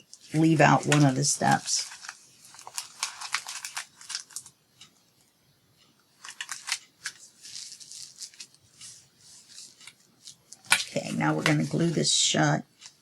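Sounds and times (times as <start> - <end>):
paper rustling: 0.0 - 4.6, 6.1 - 13.0.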